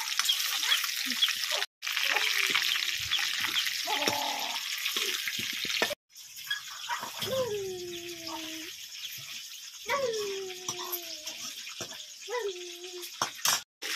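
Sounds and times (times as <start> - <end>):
meat and onions sizzling in oil: 0.0 - 13.9.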